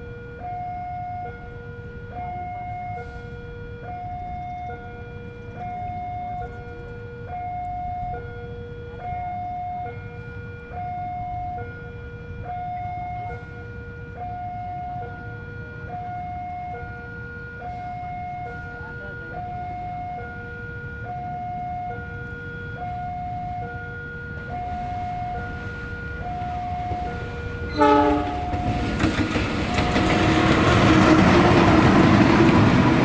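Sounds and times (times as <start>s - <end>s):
level crossing two-tone alarm: 0.0s - 28.9s.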